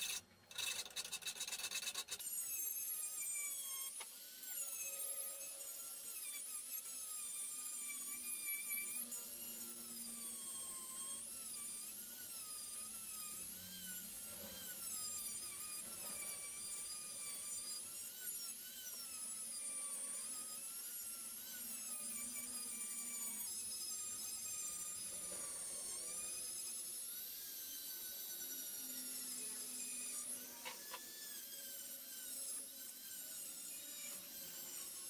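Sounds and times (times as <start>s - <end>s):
rotary tool grinding metal: 0.0s - 35.0s.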